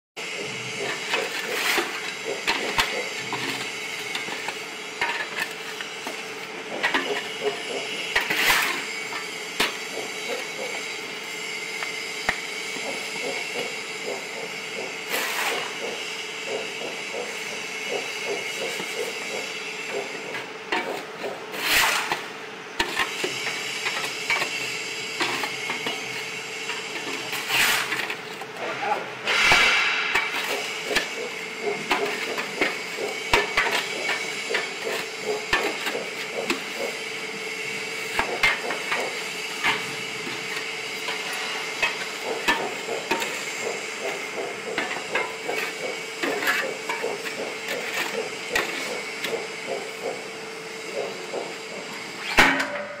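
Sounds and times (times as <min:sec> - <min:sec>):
vibration motor hum and rattle: 0:00.2 - 0:53.0.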